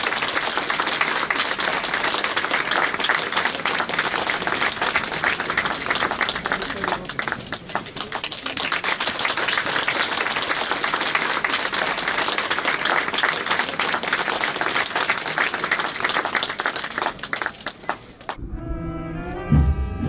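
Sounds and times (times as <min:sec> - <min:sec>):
crowd applauding: 0:00.0 - 0:18.4.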